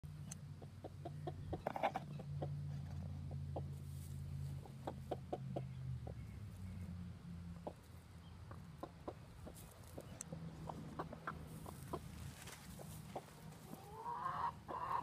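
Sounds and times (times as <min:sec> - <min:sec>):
hen clucking softly: 0:00.2 - 0:06.9, 0:07.6 - 0:15.0.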